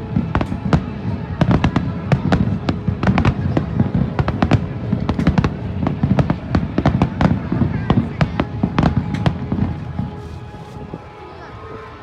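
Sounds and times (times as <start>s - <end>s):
low rumble of explosions: 0.0s - 10.9s
fireworks bangs and crackles: 0.0s - 11.2s.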